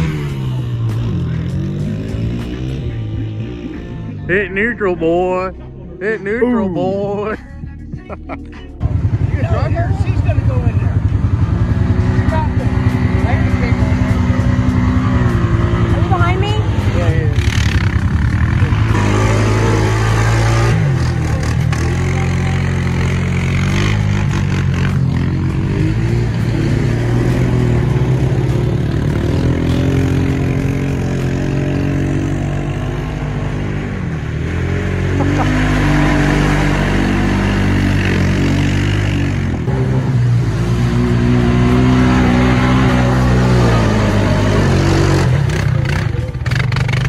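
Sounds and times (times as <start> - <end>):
atv engine revving: 0.0 - 7.4, 8.8 - 47.0
tires churning mud and water: 8.9 - 47.0.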